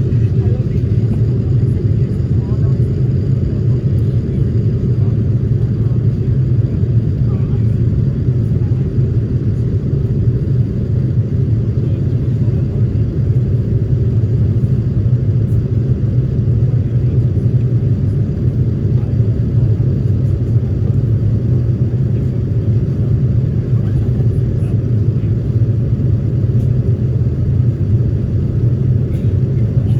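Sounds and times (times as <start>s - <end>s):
jet engine and airflow rumble: 0.0s - 29.9s.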